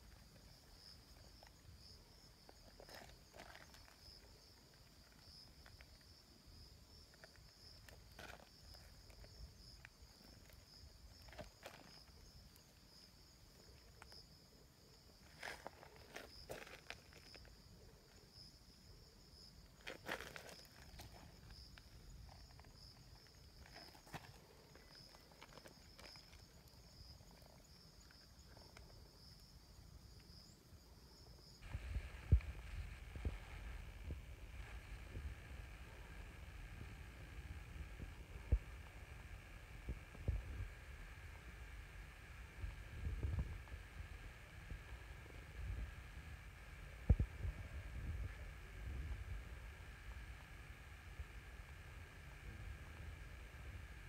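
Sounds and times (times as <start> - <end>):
high insect trill: 0.0 - 54.0.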